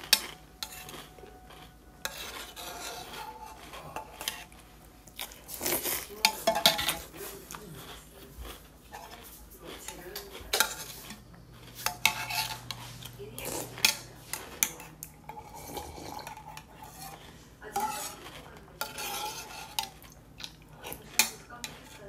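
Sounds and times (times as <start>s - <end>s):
eating and drinking: 0.0s - 22.0s.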